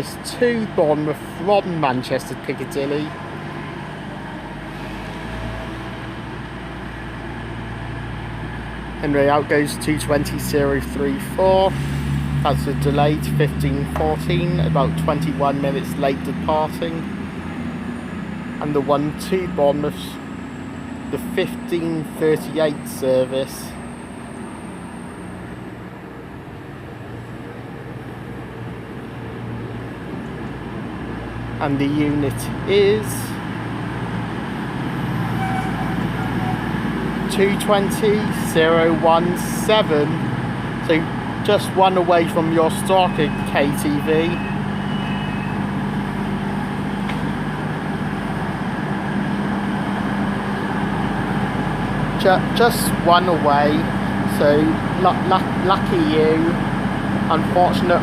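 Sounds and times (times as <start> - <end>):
diesel train engine humming: 0.0 - 58.0.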